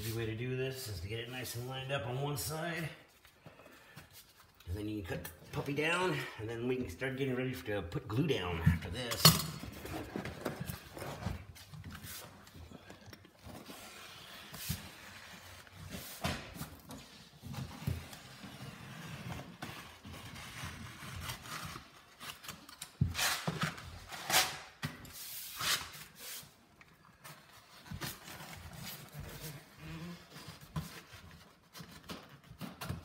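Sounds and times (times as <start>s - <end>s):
vinyl flooring rustling: 4.1s - 33.0s.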